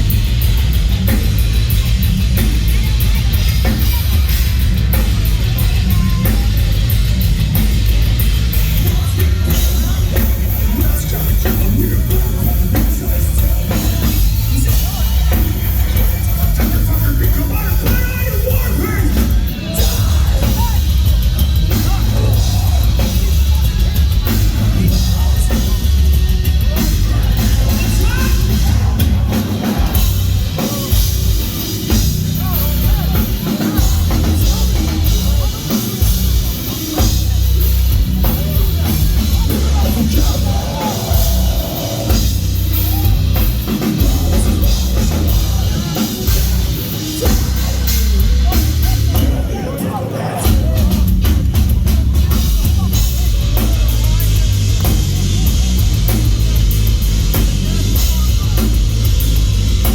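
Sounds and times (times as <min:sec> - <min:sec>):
distorted guitars: 0:00.0 - 0:59.9
heavy metal band playing live: 0:00.0 - 0:59.9
pounding drum kit: 0:00.0 - 0:59.9.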